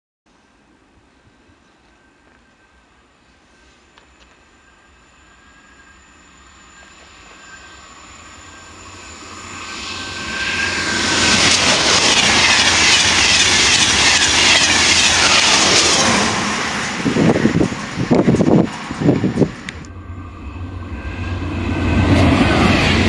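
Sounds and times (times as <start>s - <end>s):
high-speed train passing: 0.3s - 23.0s.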